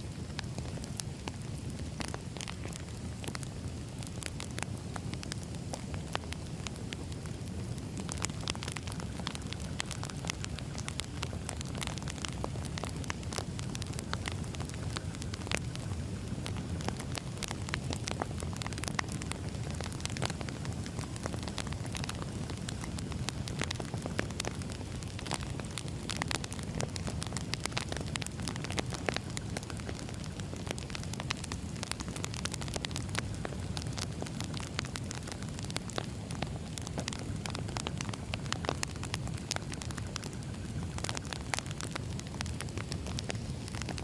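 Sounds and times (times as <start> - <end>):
firewood crackling and popping: 0.0 - 44.0
flames rumbling: 0.0 - 44.0.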